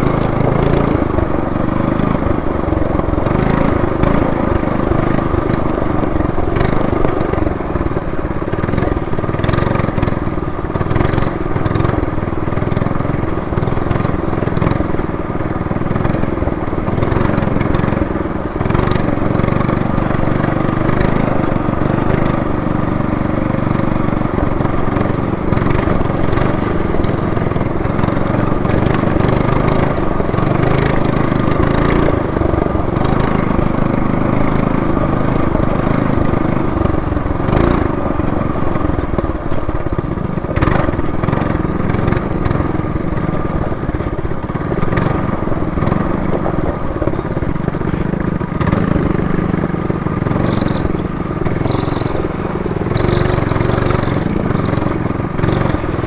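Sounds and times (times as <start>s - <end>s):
minibike engine running: 0.0s - 56.0s.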